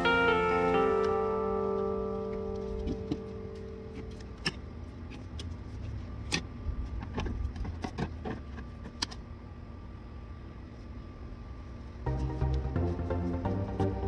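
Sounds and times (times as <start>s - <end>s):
steady low rumble: 0.0s - 7.8s, 8.8s - 14.0s.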